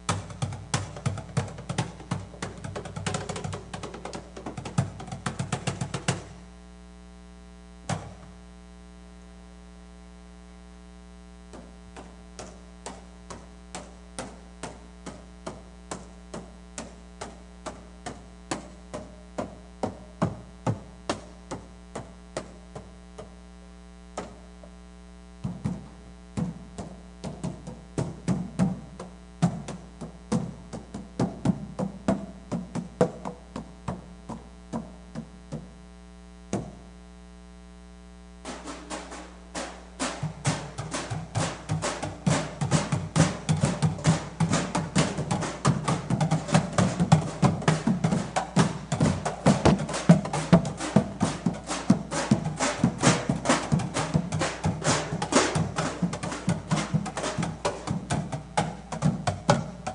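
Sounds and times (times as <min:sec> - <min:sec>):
sharp rhythmic percussion hits: 0:00.0 - 0:06.4, 0:11.5 - 0:23.4, 0:25.4 - 0:35.7, 0:38.4 - 0:59.9
electrical mains hum: 0:00.0 - 0:59.9.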